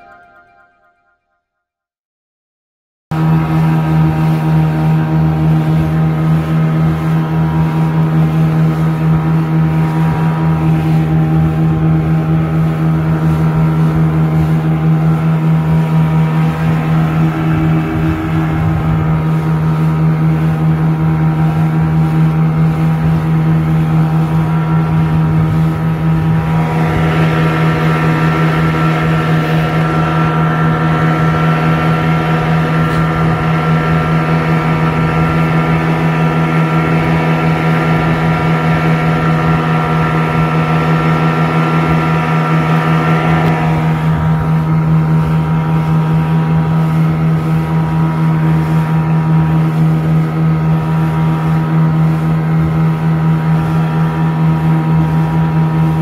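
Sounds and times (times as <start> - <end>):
outboard motor running: 3.2 - 56.0
water rushing along hull: 3.2 - 56.0.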